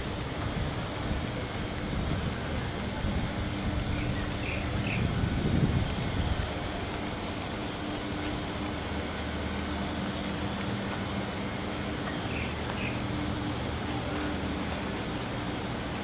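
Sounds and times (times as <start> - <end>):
traffic engine hum: 0.0 - 16.0.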